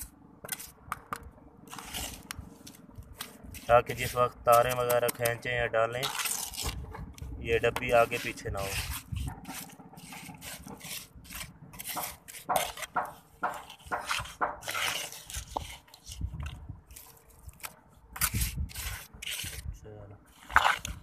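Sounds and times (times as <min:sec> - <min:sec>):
trowel scraping mortar: 0:00.0 - 0:21.0.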